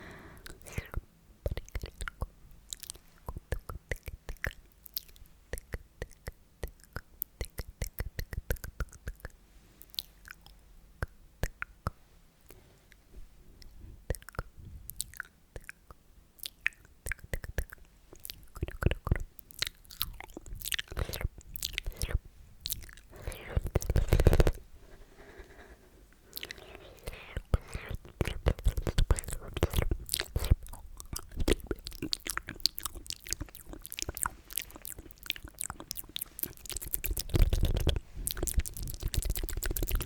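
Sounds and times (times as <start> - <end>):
wet mouth clicks and smacks: 0.4 - 12.0, 13.6 - 24.6, 26.3 - 40.0.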